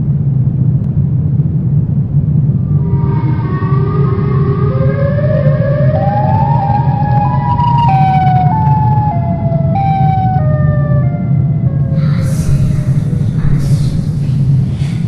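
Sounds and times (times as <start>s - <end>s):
low rumbling drone: 0.0s - 15.0s
eerie sliding tones: 2.4s - 15.0s.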